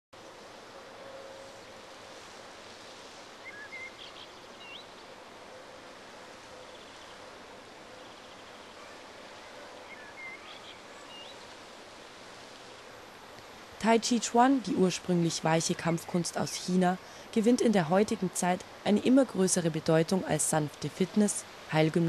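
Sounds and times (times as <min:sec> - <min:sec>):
outdoor background hiss: 0:00.2 - 0:22.0.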